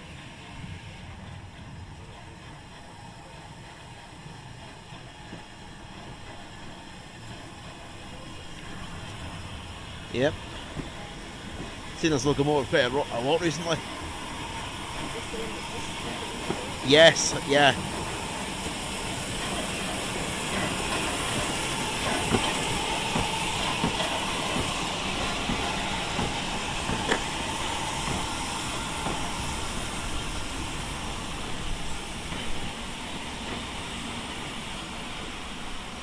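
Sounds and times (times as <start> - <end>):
hiss of steam: 0.0 - 36.0.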